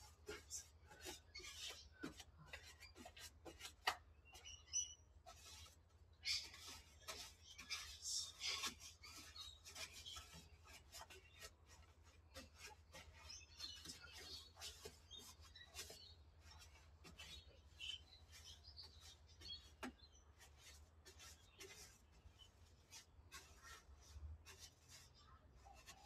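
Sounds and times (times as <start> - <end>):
faint bird chirps: 0.0 - 3.3, 4.1 - 26.0
paintbrush scraping on sheet metal: 0.0 - 26.0.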